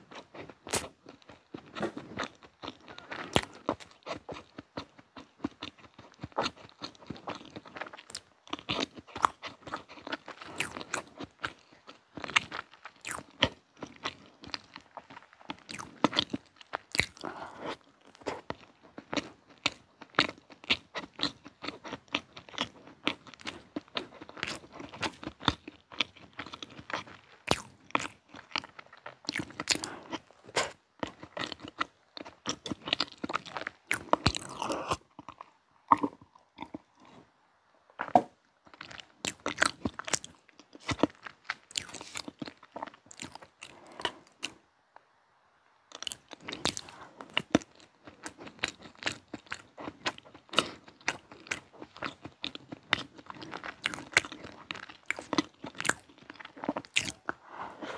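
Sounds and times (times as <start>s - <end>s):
chewing cake: 0.0s - 37.4s, 38.0s - 44.7s, 45.9s - 57.9s.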